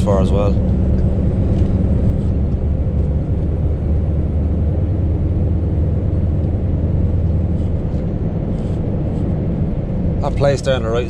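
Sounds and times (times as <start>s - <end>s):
road noise: 0.0s - 11.0s
truck engine droning: 0.0s - 11.0s.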